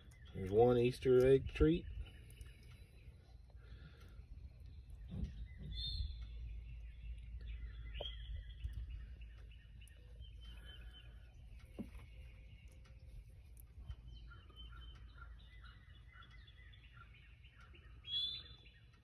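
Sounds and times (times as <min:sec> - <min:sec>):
faint birdsong: 0:00.0 - 0:19.0
low steady rumble: 0:00.0 - 0:19.0.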